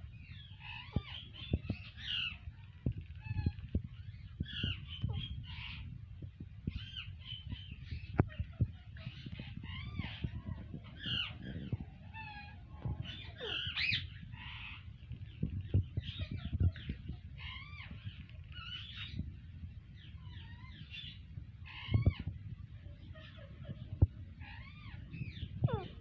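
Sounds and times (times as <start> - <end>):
parakeets chattering: 0.2 - 6.0, 6.7 - 19.2, 20.0 - 26.0.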